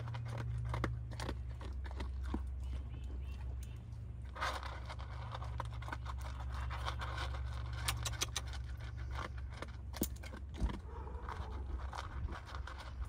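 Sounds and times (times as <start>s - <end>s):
dog eating from plastic bowl: 0.0s - 13.0s.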